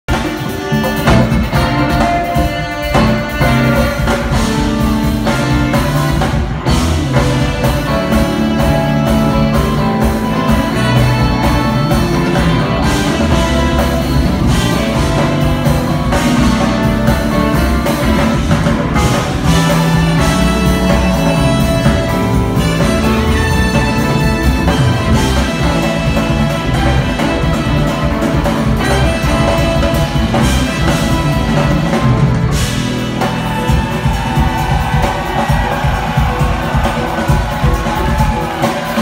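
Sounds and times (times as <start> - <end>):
drum kit: 0.0 - 39.0
jazz fusion band playing live: 0.0 - 39.0
electric guitar: 0.1 - 39.0.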